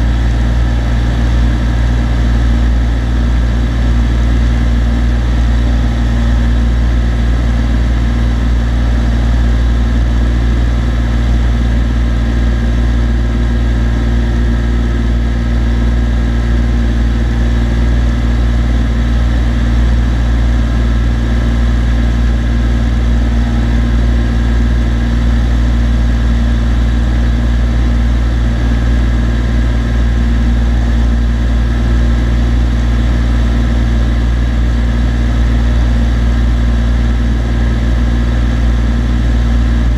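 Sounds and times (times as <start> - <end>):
airplane engine droning in flight: 0.0 - 39.9.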